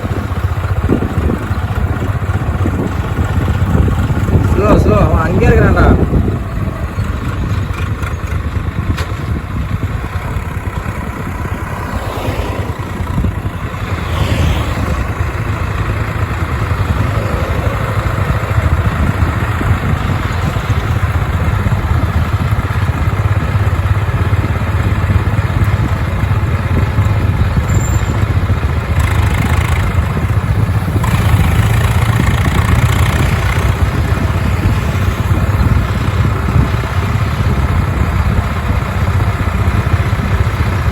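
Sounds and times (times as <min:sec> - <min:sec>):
road noise: 0:00.0 - 0:40.9
tractor diesel engine running: 0:00.0 - 0:40.9.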